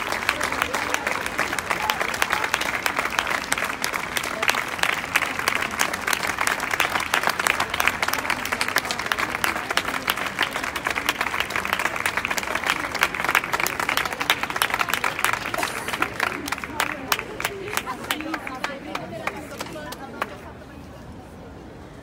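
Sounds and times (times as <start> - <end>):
crowd applauding: 0.0 - 20.4.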